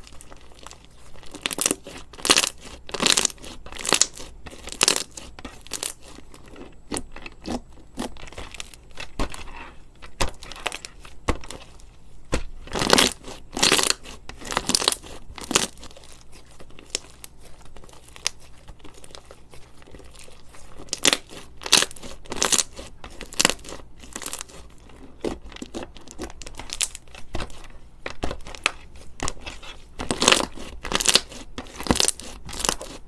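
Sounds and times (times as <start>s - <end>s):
crunchy slime crackling: 0.0s - 33.0s.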